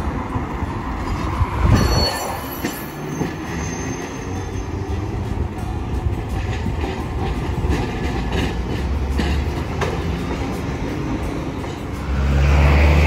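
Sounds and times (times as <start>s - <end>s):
tram rumble: 0.0s - 13.0s
tram wheels clacking over rails: 0.0s - 13.0s.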